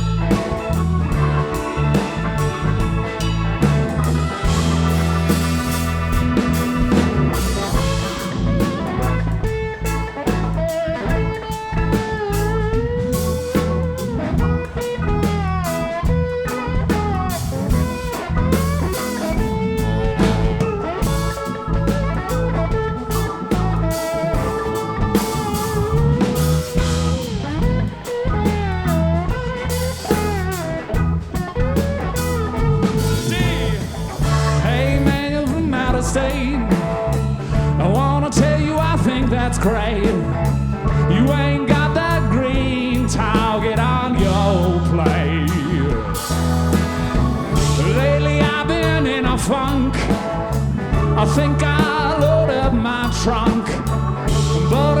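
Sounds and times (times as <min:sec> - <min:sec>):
bass guitar: 0:00.0 - 0:55.0
drum kit beat: 0:00.0 - 0:55.0
lead guitar solo: 0:00.0 - 0:55.0.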